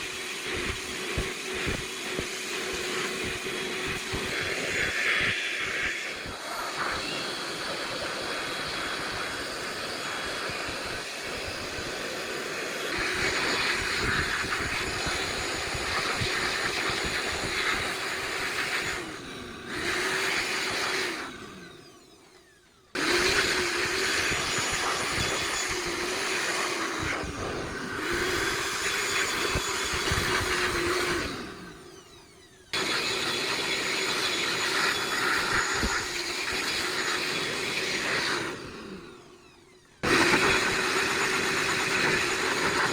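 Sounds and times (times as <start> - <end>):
power tool motor whirring: 0.0 - 42.9.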